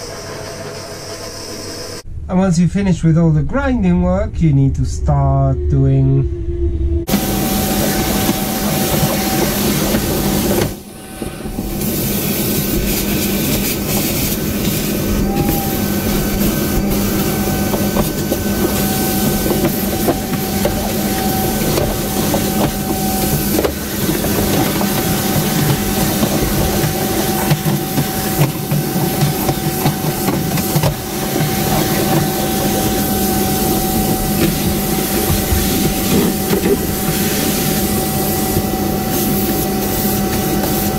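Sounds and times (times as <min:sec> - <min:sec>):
vacuum cleaner whining: 0:00.0 - 0:02.1, 0:07.0 - 0:40.9.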